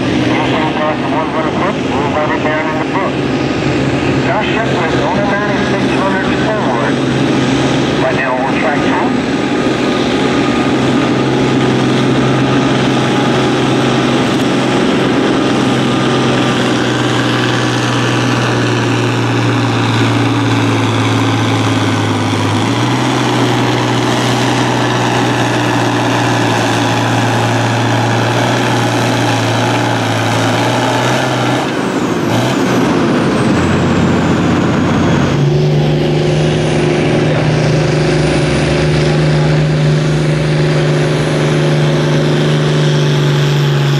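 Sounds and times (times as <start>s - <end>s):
second tractor engine: 0.0s - 43.9s
tractor engine under load: 0.0s - 43.9s.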